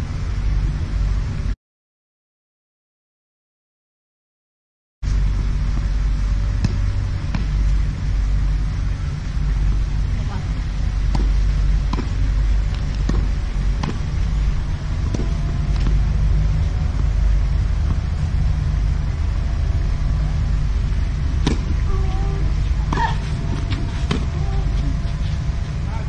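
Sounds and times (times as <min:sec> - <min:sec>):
steady low rumble: 0:00.0 - 0:01.6, 0:05.0 - 0:26.0.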